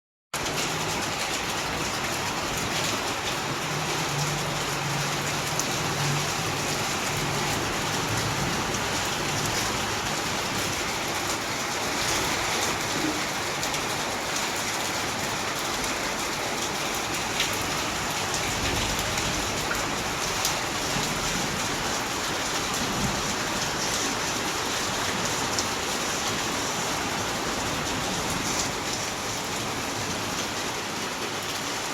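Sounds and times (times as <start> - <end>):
heavy rain on hard surfaces: 0.3 - 31.9.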